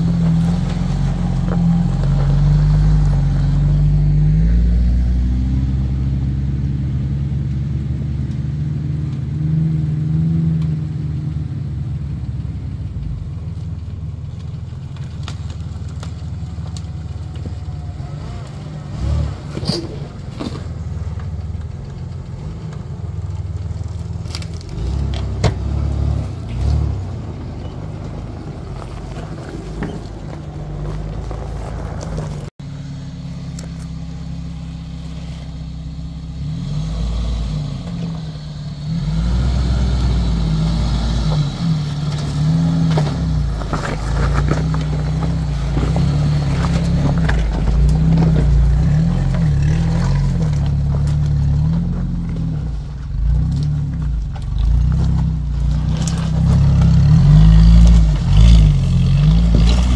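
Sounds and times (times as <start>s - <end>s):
tyres crunching on stones: 0.0s - 4.7s, 12.4s - 59.9s
off-road engines at low revs: 0.0s - 59.9s.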